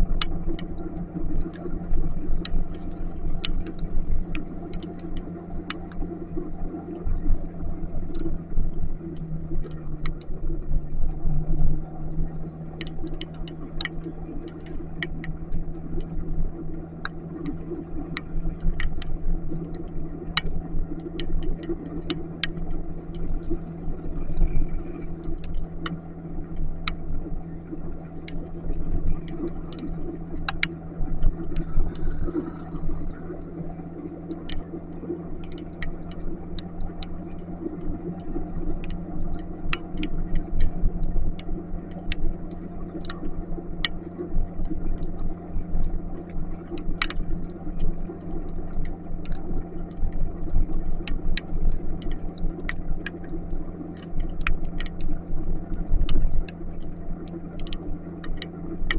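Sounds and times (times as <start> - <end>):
road and wind rumble: 0.0 - 58.9
raindrops ticking: 0.1 - 6.6, 7.4 - 58.9.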